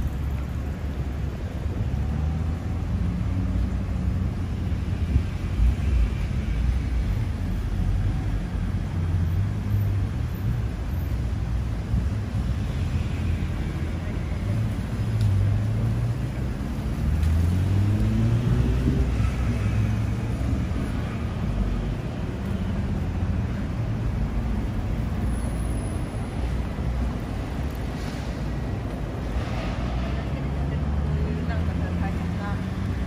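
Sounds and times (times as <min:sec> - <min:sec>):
low rumble of passing cars: 0:00.0 - 0:33.0.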